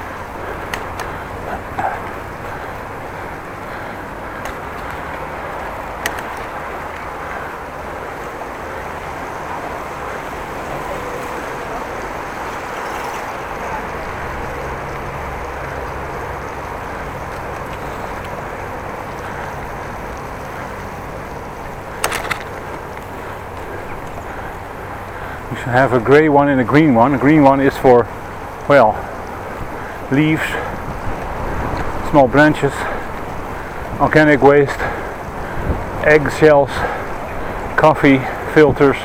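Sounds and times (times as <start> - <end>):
bicycle road noise: 0.0 - 39.0.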